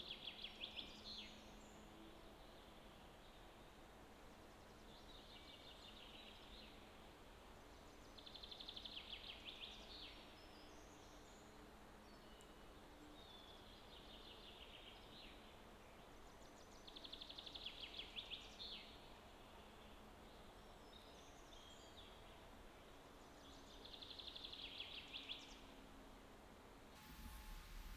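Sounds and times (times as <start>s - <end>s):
low steady background hiss: 0.0s - 27.9s.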